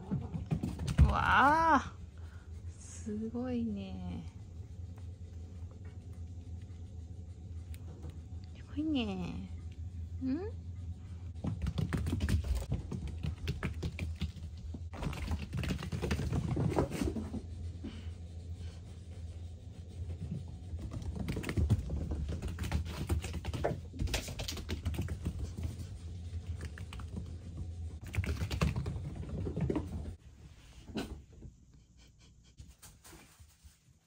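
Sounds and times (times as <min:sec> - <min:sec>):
steady low hum: 0:00.0 - 0:33.8.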